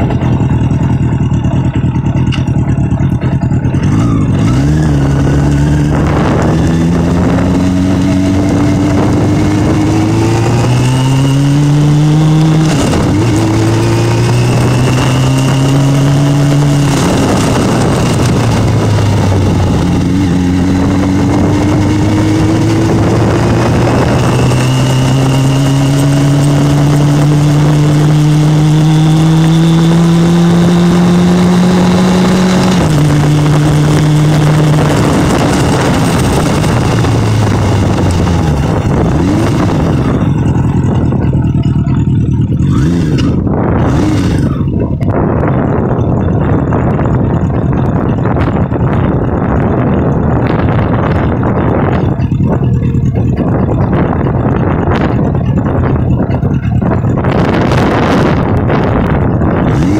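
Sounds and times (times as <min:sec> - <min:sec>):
motorcycle engine running: 0:00.0 - 0:59.9
wind rushing: 0:03.8 - 0:59.9.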